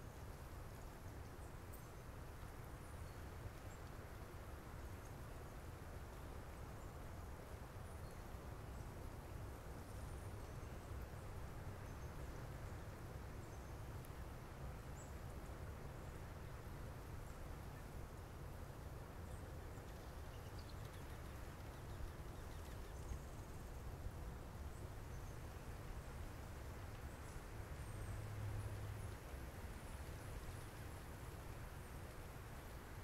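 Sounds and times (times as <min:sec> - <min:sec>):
low rumble and hiss: 0:00.0 - 0:33.0.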